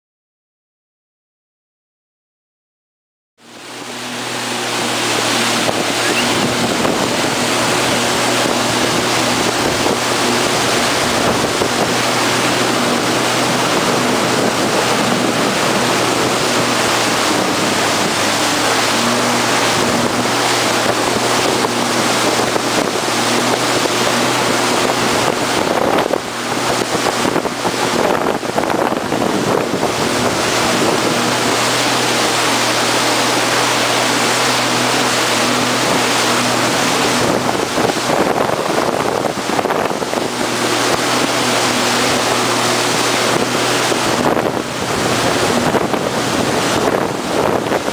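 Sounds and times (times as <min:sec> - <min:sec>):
jet ski engine running: 0:03.4 - 0:47.9
water rushing: 0:03.4 - 0:47.9
wind buffeting microphone: 0:03.5 - 0:47.9.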